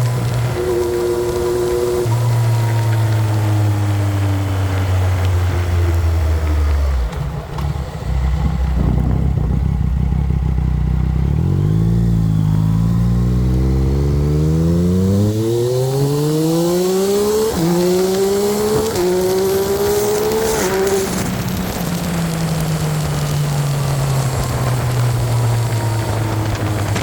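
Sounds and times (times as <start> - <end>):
gear upshifts: 0.0 - 27.0
motorcycle engine accelerating: 0.0 - 27.0.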